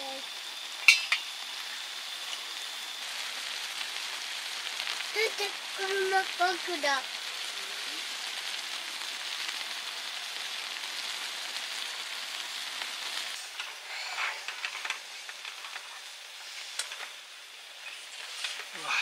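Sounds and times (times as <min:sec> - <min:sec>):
food sizzling in a pan: 0:00.0 - 0:19.0
oil spitting and crackling: 0:00.1 - 0:19.0.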